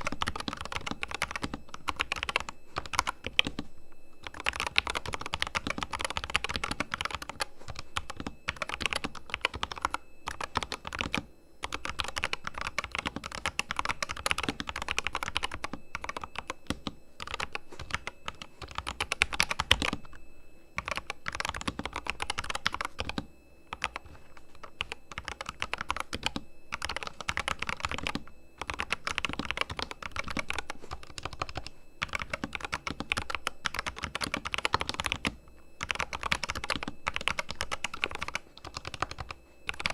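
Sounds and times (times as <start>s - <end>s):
mechanical keyboard typing: 0.0s - 3.6s, 4.2s - 20.0s, 20.8s - 39.9s.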